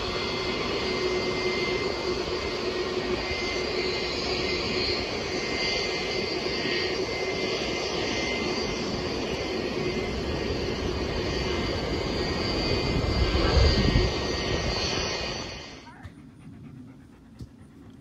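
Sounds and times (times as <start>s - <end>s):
jet engines with turbine whine: 0.0s - 18.0s.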